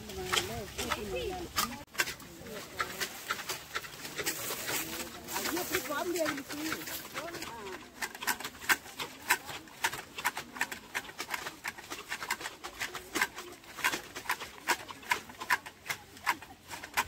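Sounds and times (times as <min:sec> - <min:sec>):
leaves rustling: 0:00.0 - 0:17.0
shears snipping: 0:00.0 - 0:17.0.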